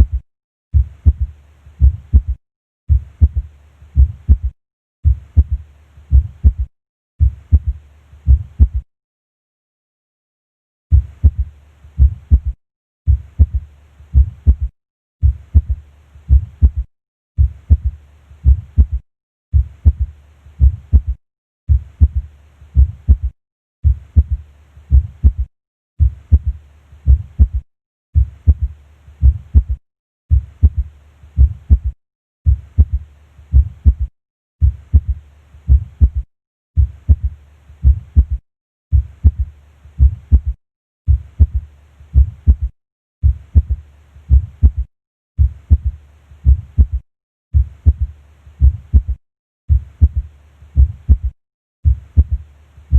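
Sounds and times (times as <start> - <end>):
heartbeat through stethoscope: 0.0 - 0.2, 0.8 - 8.8, 10.9 - 27.6, 28.2 - 52.4.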